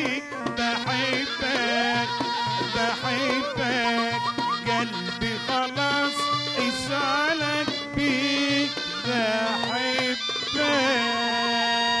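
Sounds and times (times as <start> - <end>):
double-reed shawms playing folk melody: 0.0 - 12.0.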